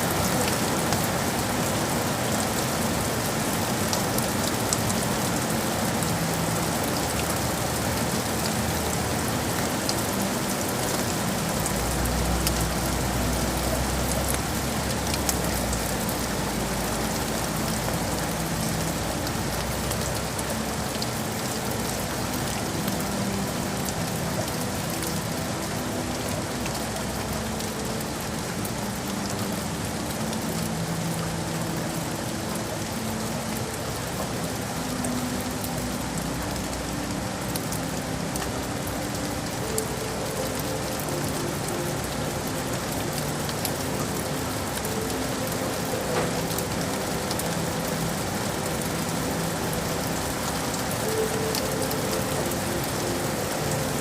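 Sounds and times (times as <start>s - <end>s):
rain falling on hard surfaces: 0.0s - 54.0s.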